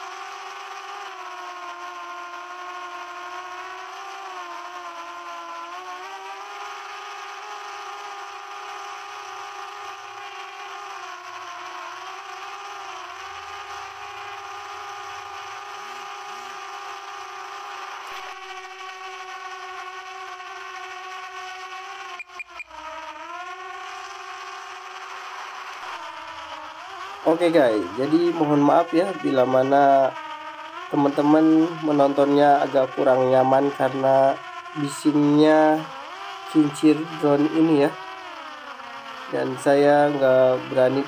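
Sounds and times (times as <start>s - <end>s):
drone propellers whining: 0.0s - 41.0s.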